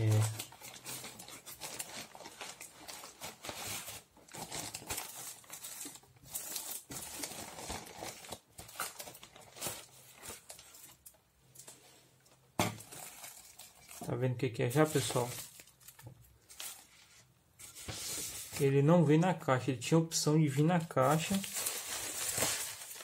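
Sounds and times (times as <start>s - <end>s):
plastic packaging crinkling: 0.0s - 11.8s, 12.7s - 16.9s, 20.5s - 23.0s.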